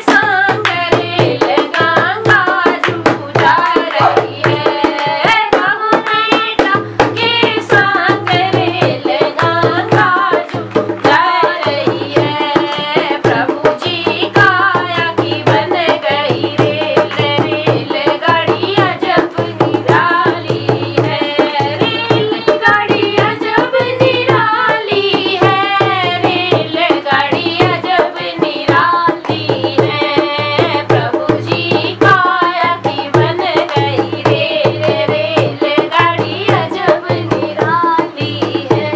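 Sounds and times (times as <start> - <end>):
girl singing devotional song: 0.0 - 38.9
hand drum folk rhythm: 0.0 - 38.9.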